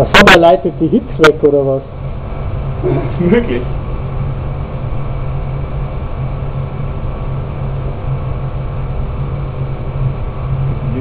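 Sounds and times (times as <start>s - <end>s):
low hum with rushing noise: 0.0s - 11.0s.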